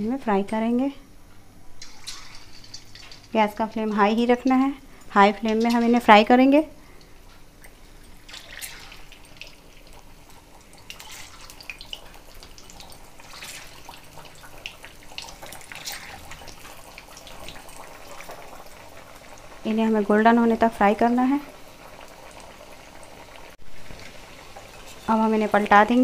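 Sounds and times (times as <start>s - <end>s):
batter deep-frying in oil: 1.8s - 26.0s.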